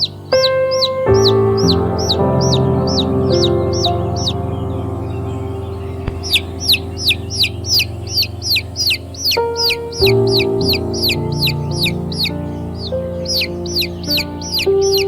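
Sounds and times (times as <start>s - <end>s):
baby chicks peeping: 0.0s - 15.0s
soft sustained music: 0.0s - 15.0s.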